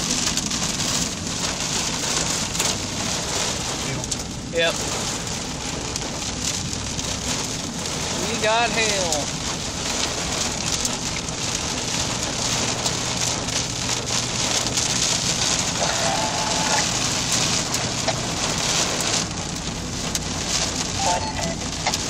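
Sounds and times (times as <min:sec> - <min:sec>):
engine and road noise: 0:00.0 - 0:22.0
heavy rain on car roof: 0:00.0 - 0:22.0.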